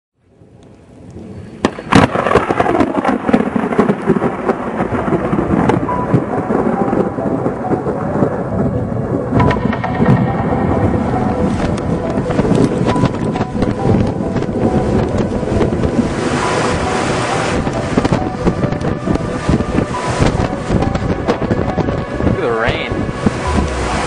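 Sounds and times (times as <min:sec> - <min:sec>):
heavy rain: 0:00.3 - 0:24.0
thunder crack and rumbling: 0:01.1 - 0:24.0.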